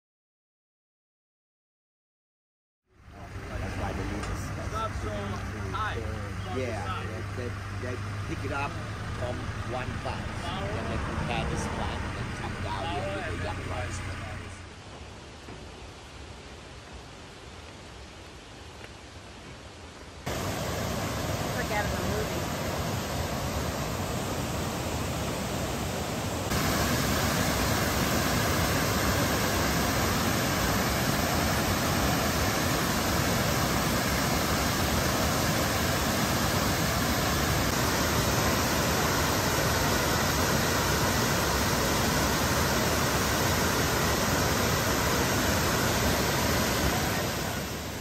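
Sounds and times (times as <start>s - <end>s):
waterfall rushing: 3.4s - 14.7s, 20.2s - 48.0s.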